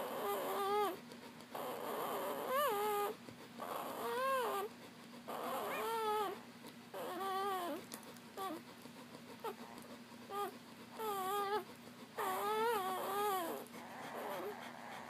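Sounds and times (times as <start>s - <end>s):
puppies squealing: 0.0s - 1.0s, 1.6s - 4.7s, 5.3s - 7.8s, 9.4s - 15.0s.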